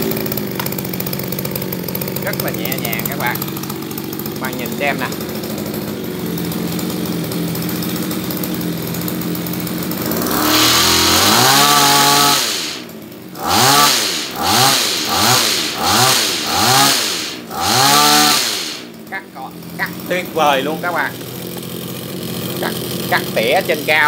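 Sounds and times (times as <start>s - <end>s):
small two-stroke engine revving: 0.0s - 24.0s.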